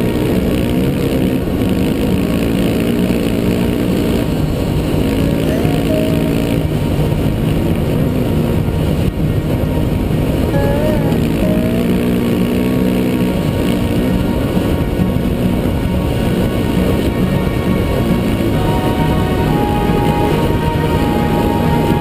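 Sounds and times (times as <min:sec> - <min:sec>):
dirt bike engine running hard: 0:00.0 - 0:22.0.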